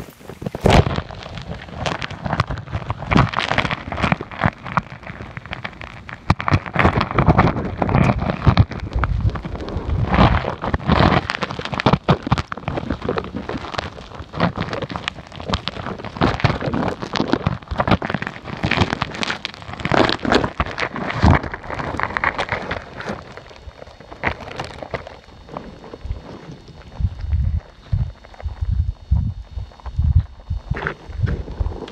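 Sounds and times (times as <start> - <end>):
rain drops popping and crackling: 0.0 - 31.9.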